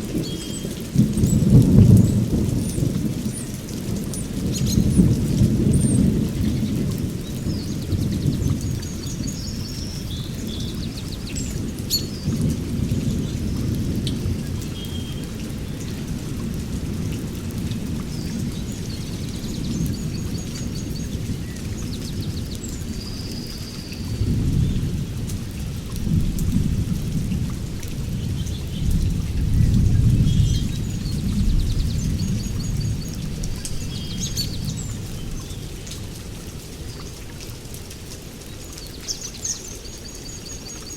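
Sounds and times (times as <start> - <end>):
thunder rumbling: 0.0 - 23.4, 24.0 - 35.4
heavy rain falling: 0.0 - 40.9.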